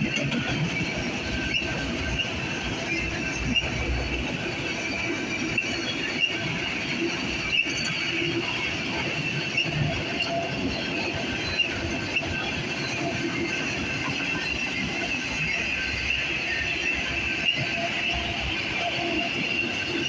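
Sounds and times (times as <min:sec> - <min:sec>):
freight train wheels rumbling: 0:00.0 - 0:20.0
high wheel squeal: 0:00.1 - 0:20.0.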